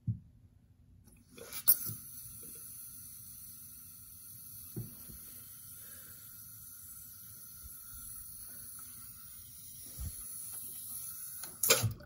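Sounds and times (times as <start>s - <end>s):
water hissing through toilet valve: 1.1s - 12.0s.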